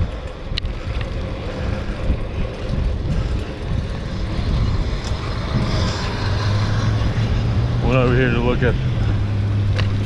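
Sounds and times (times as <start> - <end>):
wind and road noise rumble: 0.0 - 10.0.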